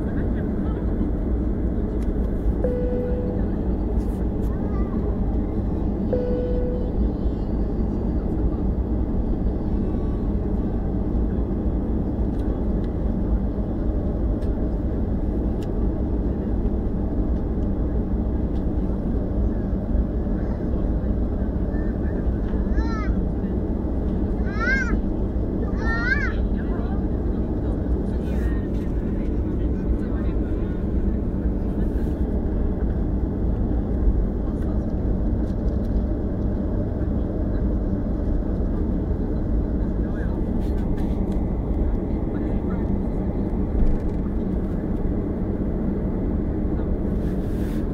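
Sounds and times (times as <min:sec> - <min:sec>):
jet engine noise inside cabin: 0:00.0 - 0:47.9.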